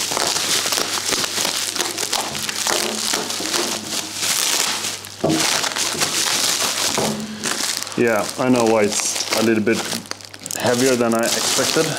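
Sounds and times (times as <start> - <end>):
bubble wrap crinkling: 0.0 - 11.9.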